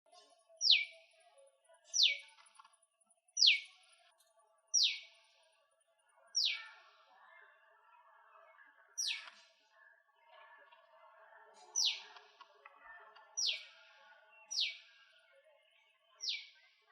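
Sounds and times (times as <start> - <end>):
faint bird chatter: 0.1 - 16.9.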